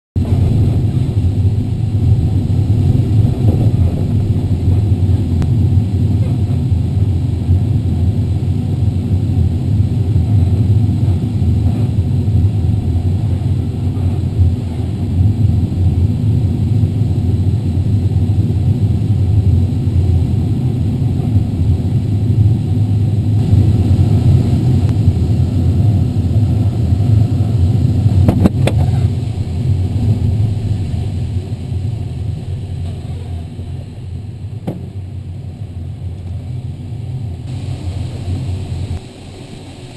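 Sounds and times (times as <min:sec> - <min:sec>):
cockpit airflow rumble: 0:00.1 - 0:39.9.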